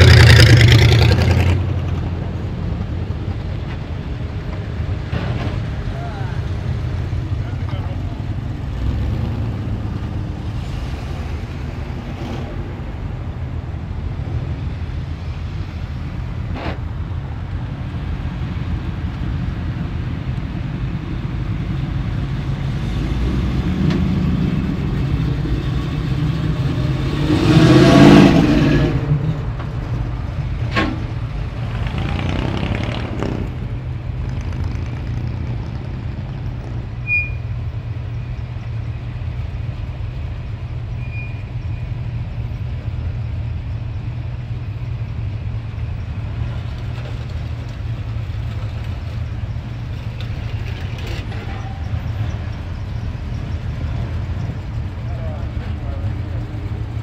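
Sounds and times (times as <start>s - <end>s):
car engines rumbling past: 0.0s - 57.0s.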